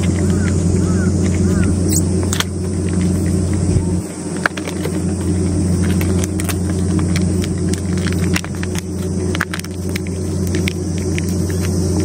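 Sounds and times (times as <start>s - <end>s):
cat chewing and lapping: 0.0s - 12.0s
low engine hum: 0.0s - 12.0s.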